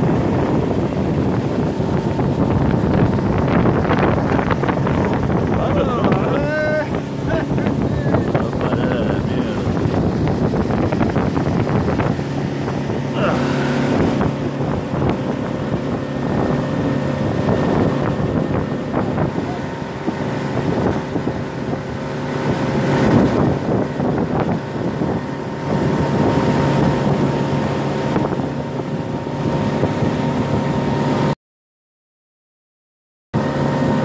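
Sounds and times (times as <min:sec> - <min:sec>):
wind buffeting microphone: 0:00.0 - 0:31.3
outboard motor running: 0:00.0 - 0:31.4, 0:33.4 - 0:34.0
wake water rushing: 0:00.0 - 0:31.4, 0:33.4 - 0:34.0.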